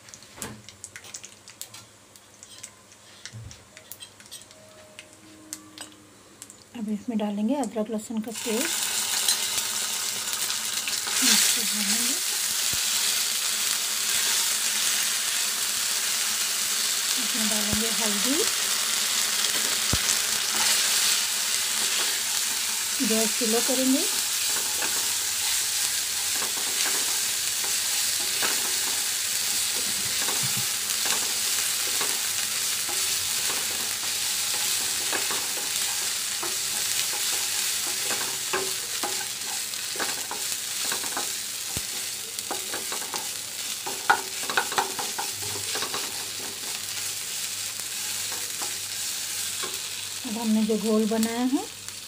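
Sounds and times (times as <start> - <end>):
spices sizzling in hot oil: 0.0 - 4.6, 5.8 - 52.0.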